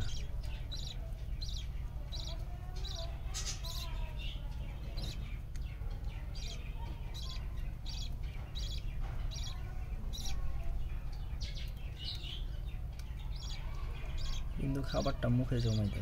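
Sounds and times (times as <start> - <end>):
budgies chirping: 0.0 - 16.0.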